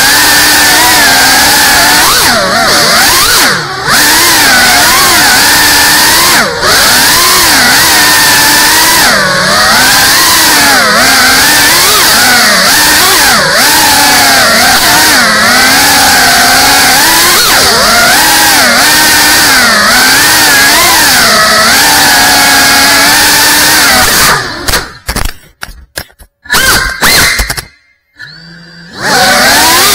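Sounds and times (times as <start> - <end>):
drone motors whining: 0.0 - 25.2, 26.4 - 29.9.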